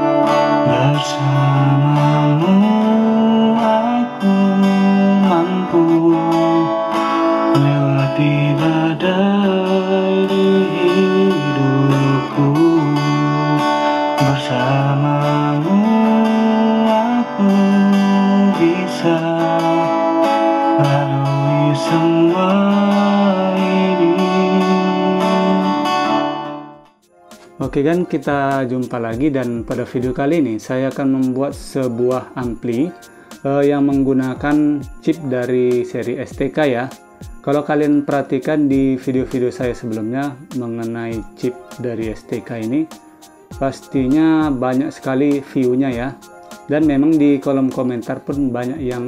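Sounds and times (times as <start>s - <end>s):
guitar-led instrumental music: 0.0s - 49.0s.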